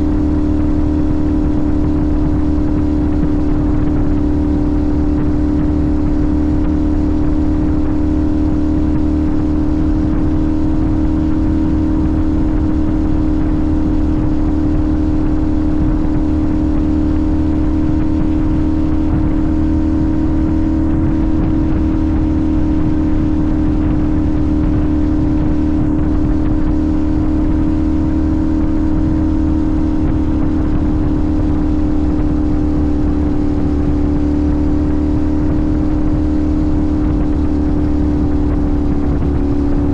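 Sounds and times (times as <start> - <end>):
motorcycle engine cruising: 0.0 - 39.9
rough rushing noise: 0.0 - 39.9.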